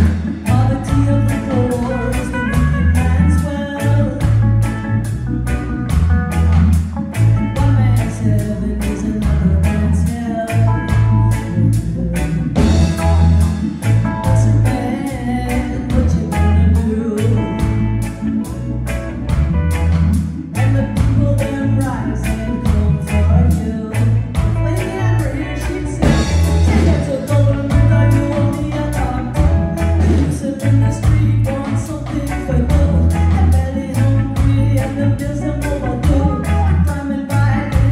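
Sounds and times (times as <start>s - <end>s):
woman singing: 0.0s - 5.2s, 7.4s - 18.8s, 20.5s - 37.9s
live reggae band: 0.0s - 37.9s.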